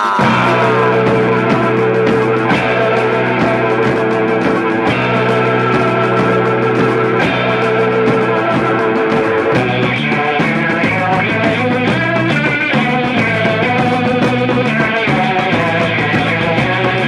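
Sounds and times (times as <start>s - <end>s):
instrumental rock band music: 0.0s - 17.0s.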